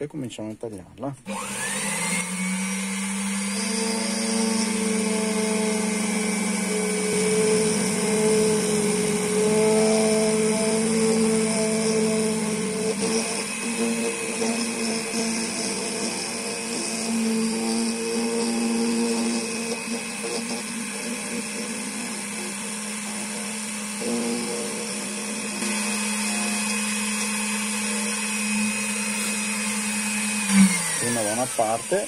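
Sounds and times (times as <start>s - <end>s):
key-cutting machine milling metal: 1.3s - 32.0s.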